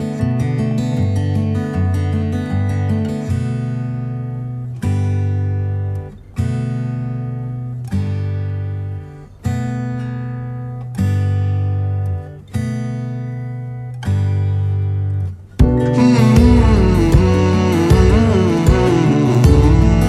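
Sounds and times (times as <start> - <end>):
strummed acoustic guitar chords: 0.0 - 20.0.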